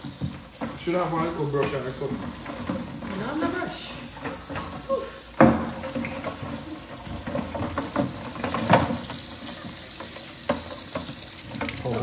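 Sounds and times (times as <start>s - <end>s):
tap water running into steel sink: 0.0s - 12.0s.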